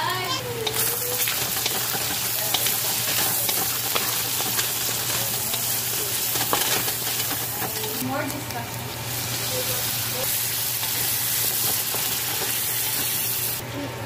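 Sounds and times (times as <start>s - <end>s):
meat sizzling in hot oil: 0.0s - 13.6s.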